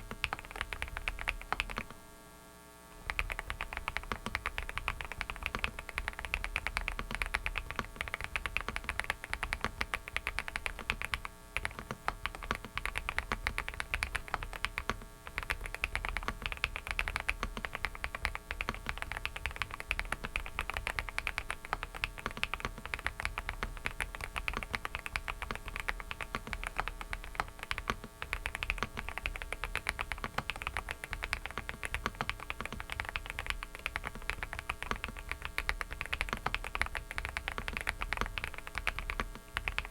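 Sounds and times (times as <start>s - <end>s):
mechanical keyboard typing: 0.0s - 2.0s, 3.0s - 39.9s.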